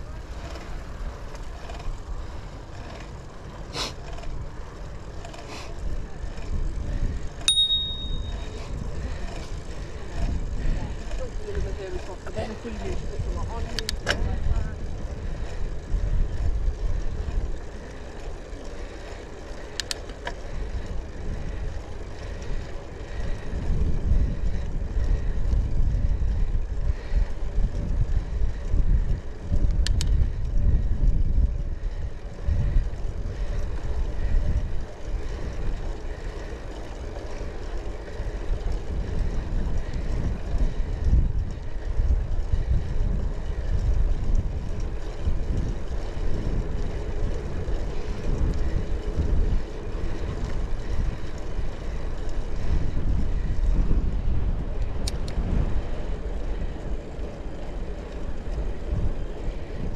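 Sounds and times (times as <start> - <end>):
bicycle road rumble: 0.0 - 59.9
wind buffeting microphone: 0.0 - 59.9.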